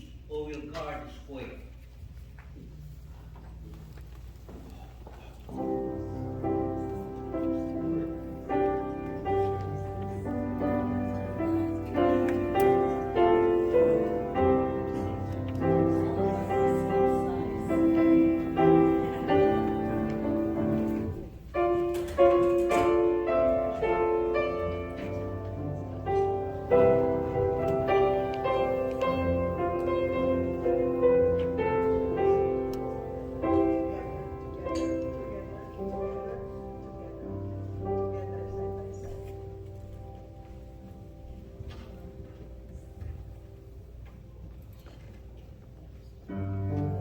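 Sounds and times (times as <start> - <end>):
slow piano chords: 4.7 - 47.0.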